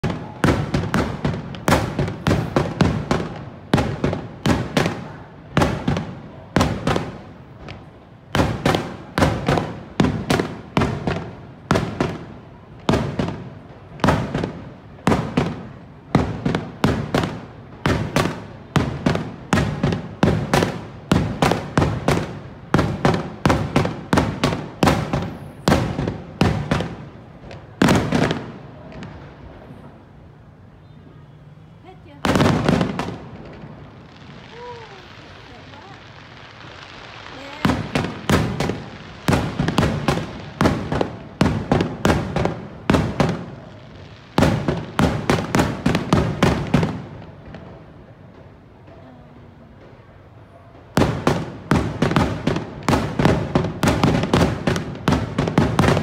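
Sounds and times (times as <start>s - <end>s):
fireworks bursting with echoes: 0.0s - 56.0s.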